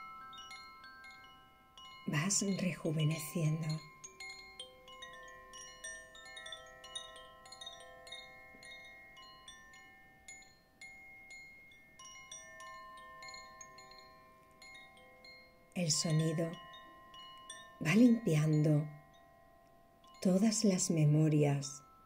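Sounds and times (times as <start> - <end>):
chimes tinkling softly: 0.0 - 22.0.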